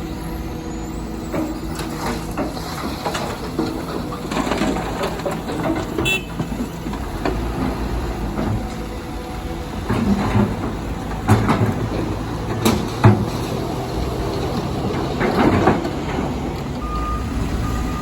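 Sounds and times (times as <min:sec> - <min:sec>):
diesel engine running: 0:00.0 - 0:18.0
excavator bucket scraping rock: 0:01.2 - 0:16.8.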